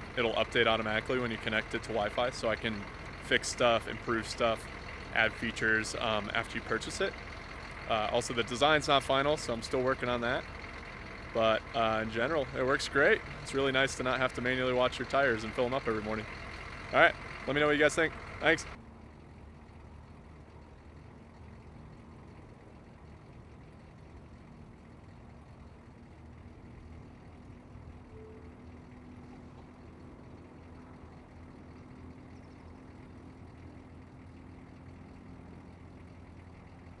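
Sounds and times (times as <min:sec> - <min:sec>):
engine idling with low hum: 0:00.0 - 0:37.0.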